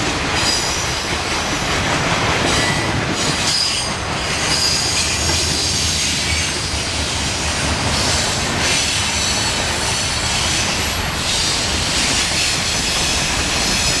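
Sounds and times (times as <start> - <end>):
freight cars rumbling on rails: 0.0 - 14.0.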